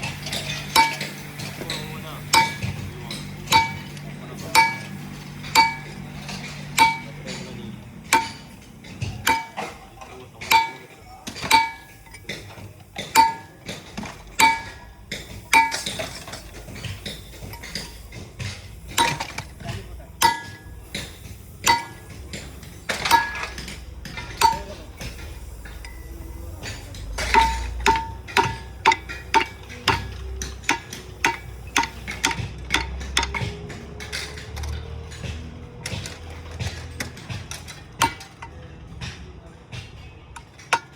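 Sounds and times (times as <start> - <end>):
hammer blows on metal: 0.0 - 9.8, 10.4 - 19.6, 20.2 - 40.9.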